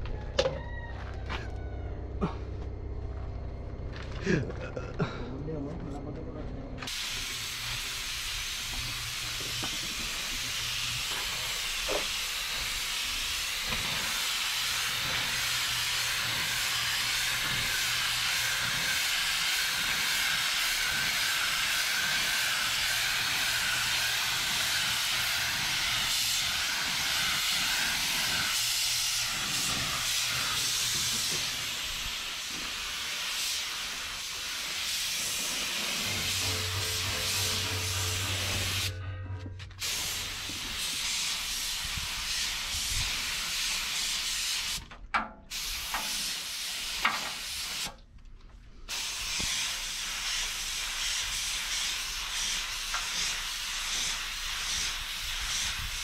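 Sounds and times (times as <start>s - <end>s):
paint spray gun hissing: 6.9s - 39.0s, 39.8s - 44.9s, 45.5s - 48.0s, 48.9s - 56.0s.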